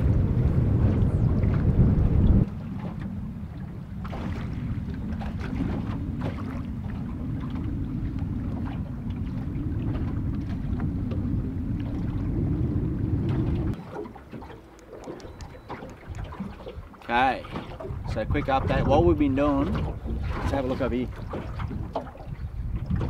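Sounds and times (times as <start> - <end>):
wind over choppy water: 0.0 - 23.0.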